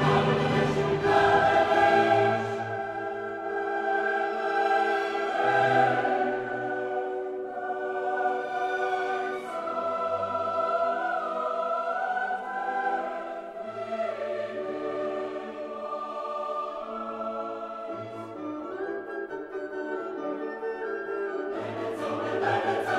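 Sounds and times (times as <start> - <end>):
choir singing held chords: 0.0 - 18.8, 21.5 - 22.9
orchestral backing: 0.0 - 22.9.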